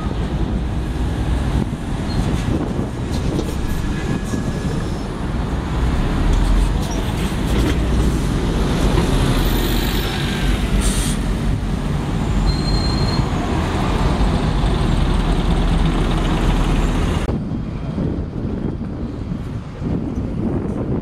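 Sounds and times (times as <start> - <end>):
distant traffic: 0.0 - 18.2
buses passing: 0.0 - 21.0.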